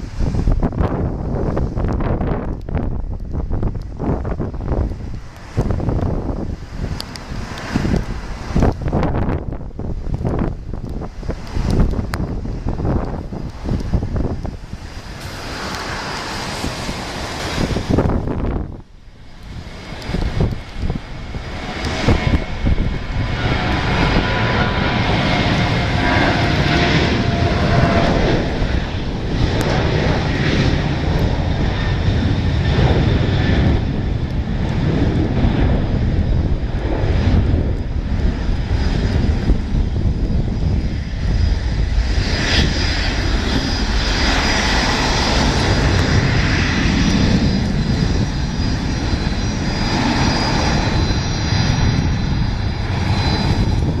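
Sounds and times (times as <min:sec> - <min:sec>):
jet engine roar: 0:00.0 - 0:54.0.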